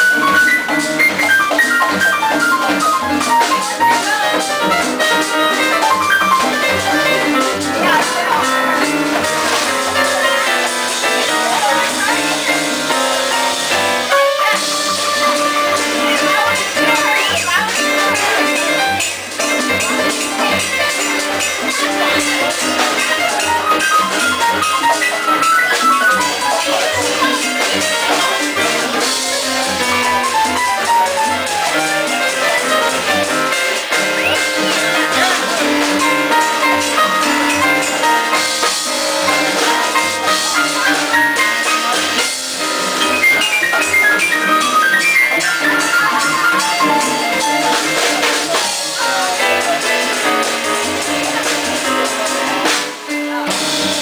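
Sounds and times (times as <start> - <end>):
drums and percussion: 0.0 - 54.0
latin jazz band playing: 0.0 - 54.0
piano quick runs: 0.0 - 54.0.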